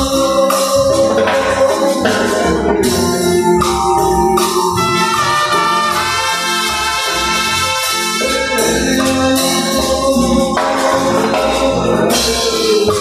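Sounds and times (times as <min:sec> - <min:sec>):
low synth bass line: 0:00.0 - 0:13.0
brass-like synthesizer chords: 0:01.2 - 0:12.2.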